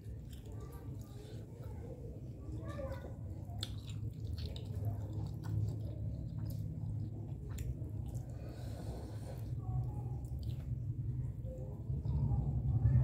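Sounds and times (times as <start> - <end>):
wet chewing mouth sounds: 0.0 - 11.4
steady low hum: 0.0 - 13.0.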